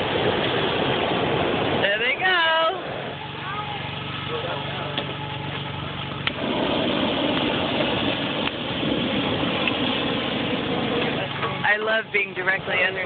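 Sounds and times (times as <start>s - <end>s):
engine hum: 0.0s - 13.0s
propane burner rushing: 0.0s - 13.0s.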